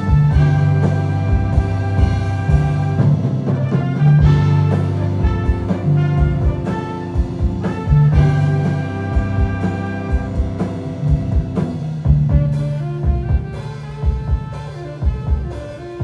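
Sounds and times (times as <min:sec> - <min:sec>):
big band jazz: 0:00.0 - 0:16.0.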